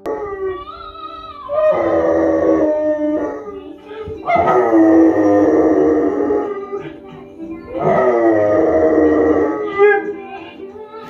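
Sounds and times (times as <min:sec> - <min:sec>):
dog howling: 0:00.0 - 0:10.6
woman singing on television: 0:01.8 - 0:11.0.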